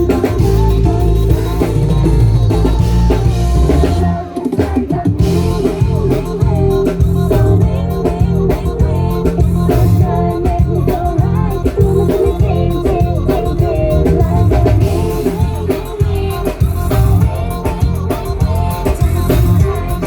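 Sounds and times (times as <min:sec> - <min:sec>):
pop music over sound system: 0:00.0 - 0:20.0.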